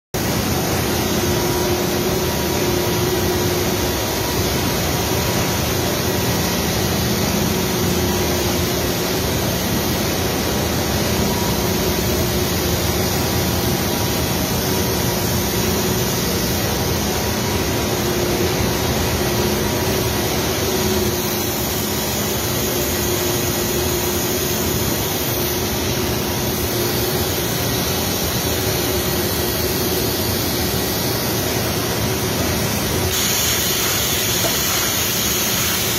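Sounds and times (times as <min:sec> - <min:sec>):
production line machinery: 0:00.2 - 0:35.9.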